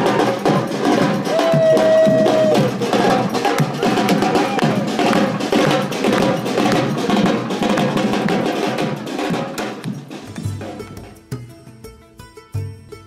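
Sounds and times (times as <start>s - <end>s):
marching drum band: 0.0s - 11.2s.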